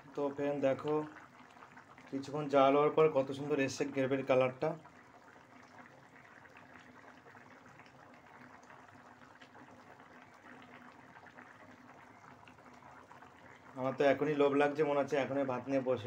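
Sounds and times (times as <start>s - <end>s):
gravy bubbling in a pot: 0.0s - 16.0s.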